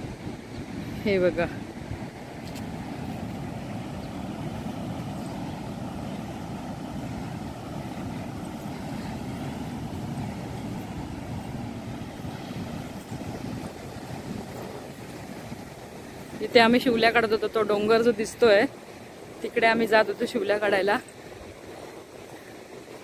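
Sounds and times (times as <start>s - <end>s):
surf breaking on a beach: 0.0s - 23.0s
wind buffeting microphone: 0.0s - 23.0s.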